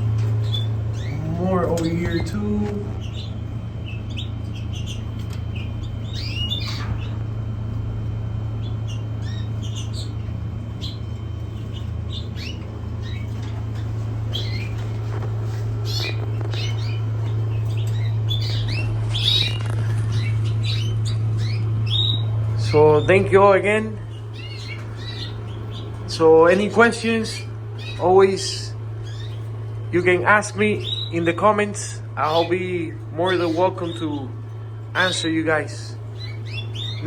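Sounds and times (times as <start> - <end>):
caged birds chirping: 0.0 - 37.0
low hum: 0.0 - 37.0.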